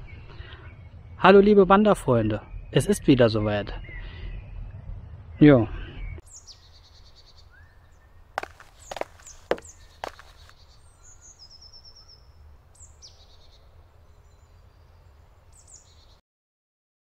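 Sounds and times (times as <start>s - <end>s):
small birds chirping: 2.2s - 16.2s.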